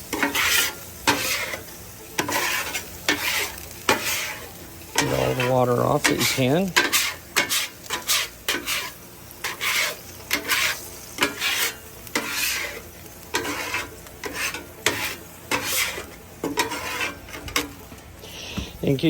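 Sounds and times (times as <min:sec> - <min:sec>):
scraper scraping griddle: 0:00.0 - 0:18.8
water sizzling on hot surface: 0:00.0 - 0:19.0.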